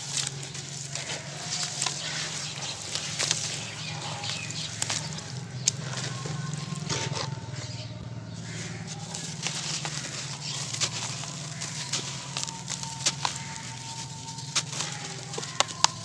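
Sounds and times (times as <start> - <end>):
cement chunks crunching and crumbling: 0.0 - 7.8, 8.5 - 16.0.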